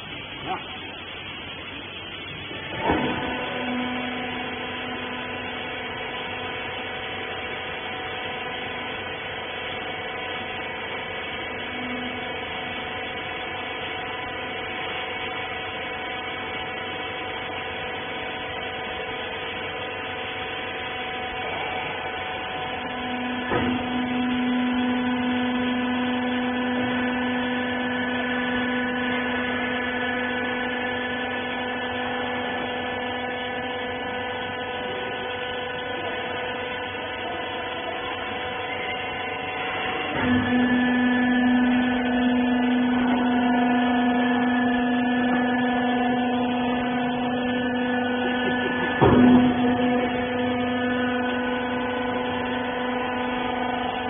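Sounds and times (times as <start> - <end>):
lower hum: 0.0 - 54.0
pump motor humming: 0.0 - 54.0.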